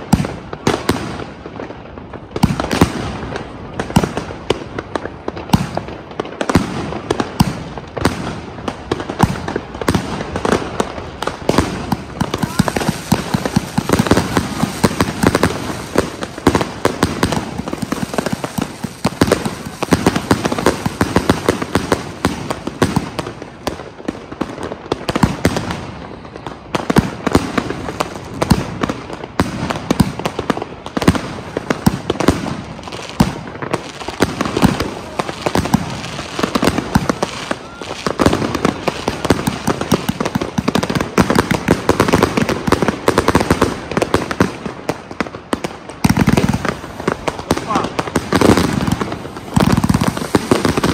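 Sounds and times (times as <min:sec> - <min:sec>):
firework bangs and crackles: 0:00.0 - 0:50.9.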